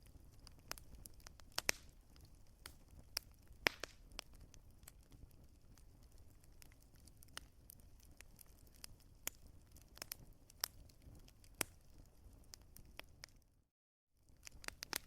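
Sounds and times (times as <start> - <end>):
wood fire crackling: 0.0 - 13.5, 14.2 - 15.0.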